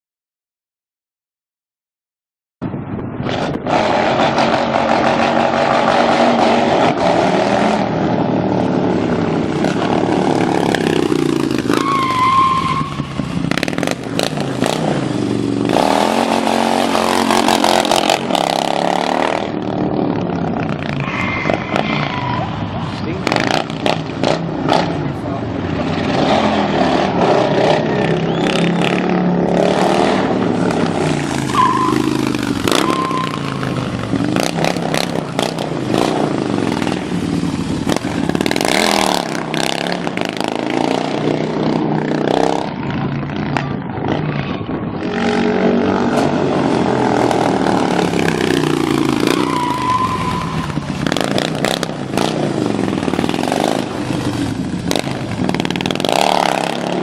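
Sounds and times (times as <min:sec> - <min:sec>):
motorcycle engine revving: 0:03.3 - 0:57.0.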